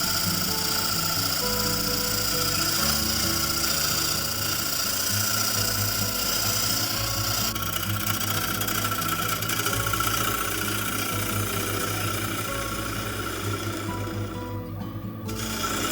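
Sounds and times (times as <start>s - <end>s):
tool hissing on spinning wood: 0.0s - 14.6s, 15.3s - 15.9s
background music: 0.0s - 15.9s
wood lathe motor hum: 0.0s - 15.9s.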